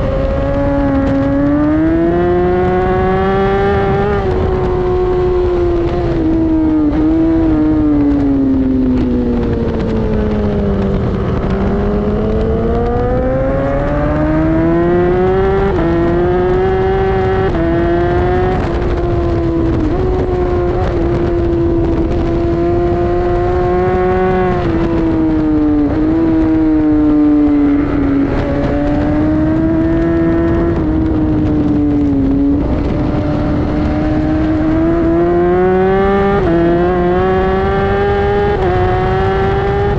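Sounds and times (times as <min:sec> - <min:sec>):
gear changes: 0:00.0 - 0:39.9
sport bike engine: 0:00.0 - 0:39.9
wind rush: 0:00.0 - 0:39.9.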